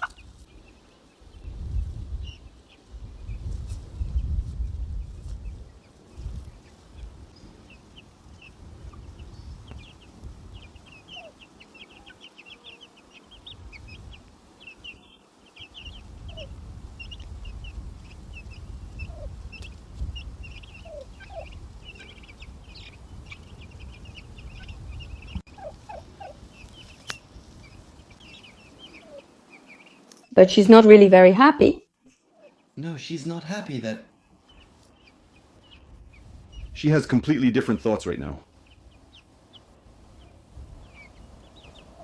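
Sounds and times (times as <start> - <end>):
turkey hens calling: 0.0 - 1.4, 5.1 - 37.0, 37.6 - 42.0
turkey poults peeping: 0.0 - 30.8, 32.0 - 42.0.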